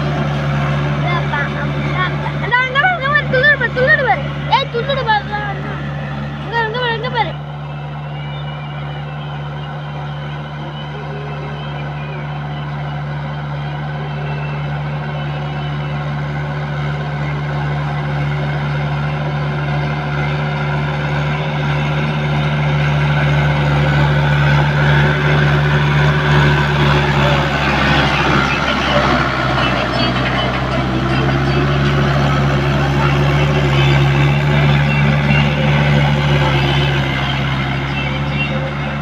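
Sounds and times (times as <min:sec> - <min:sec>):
diesel tractor engine under load: 0:00.0 - 0:39.0.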